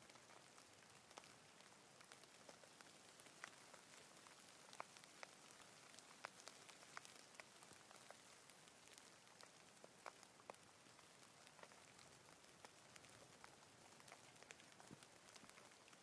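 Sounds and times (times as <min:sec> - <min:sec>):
faint rain hiss: 0:00.0 - 0:16.0
raindrops ticking: 0:00.0 - 0:16.0.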